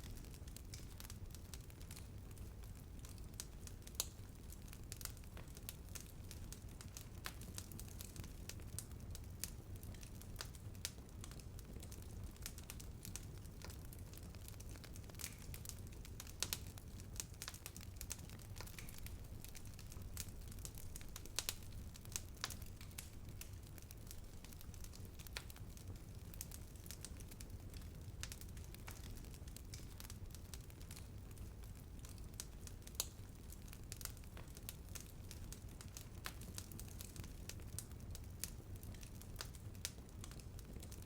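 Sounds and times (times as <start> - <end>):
bonfire crackling and popping: 0.0 - 41.0.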